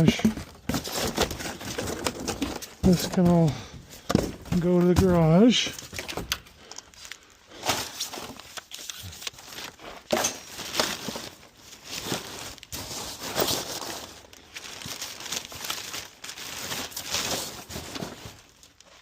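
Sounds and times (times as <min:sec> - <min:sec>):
junk being handled and sorted: 0:00.0 - 0:19.0.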